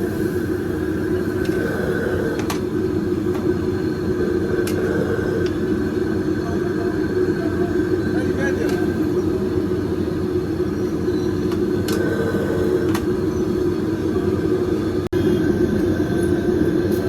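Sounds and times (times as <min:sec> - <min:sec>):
faint steady whine: 0:00.0 - 0:17.0
low rumble of market din: 0:00.0 - 0:17.0.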